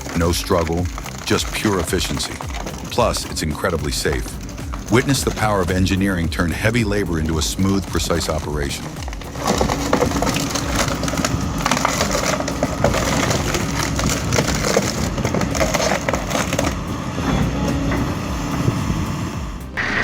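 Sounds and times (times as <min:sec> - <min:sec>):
wood cracking and splintering: 0:00.0 - 0:19.8
excavator engine and hydraulics drone: 0:00.0 - 0:20.0.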